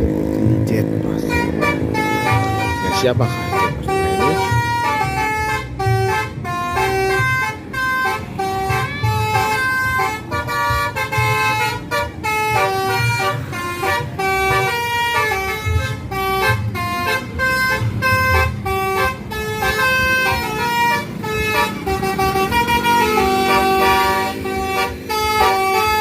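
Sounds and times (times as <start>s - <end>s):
bus engine rumble: 0.0s - 26.0s
musical air horn tune: 1.2s - 26.0s.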